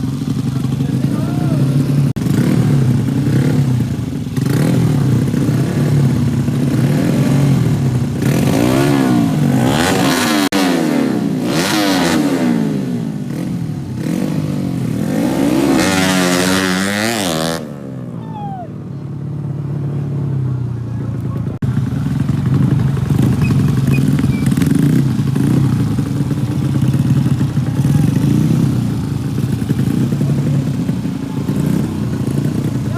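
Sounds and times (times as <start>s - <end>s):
racing motorcycles revving: 0.0s - 32.9s.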